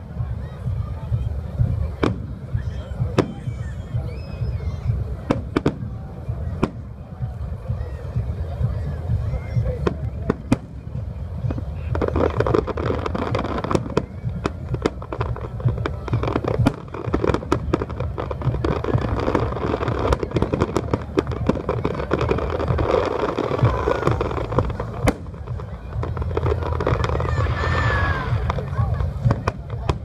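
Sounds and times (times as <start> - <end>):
low continuous rumble: 0.0 - 30.0.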